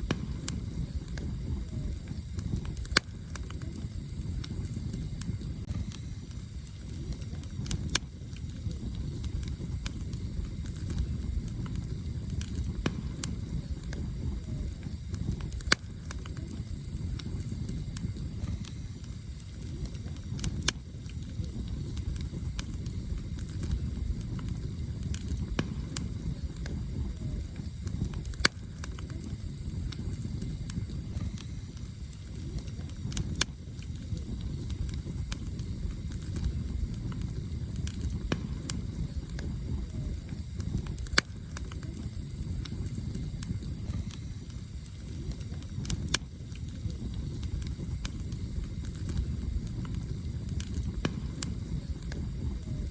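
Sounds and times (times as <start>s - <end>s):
campfire crackling: 0.0s - 52.9s
low rumble of fire: 0.0s - 52.9s
sharp pops of burning wood: 0.0s - 52.9s.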